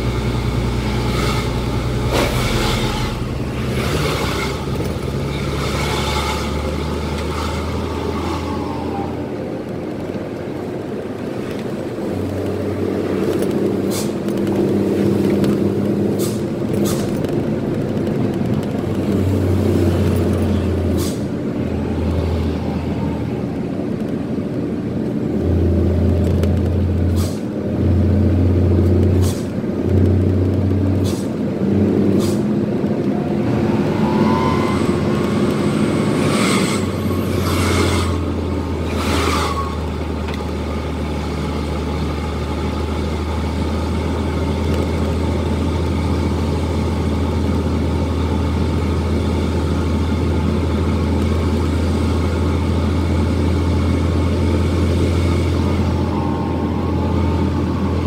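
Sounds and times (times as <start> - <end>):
truck engine drone from cab: 0.0 - 58.0.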